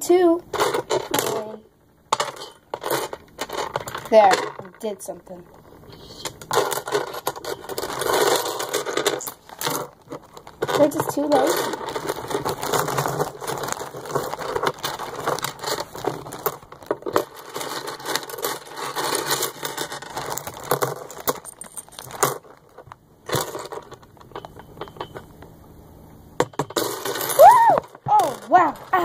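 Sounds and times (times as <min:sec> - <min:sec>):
seashells clattering: 0:00.5 - 0:25.5, 0:26.4 - 0:29.0.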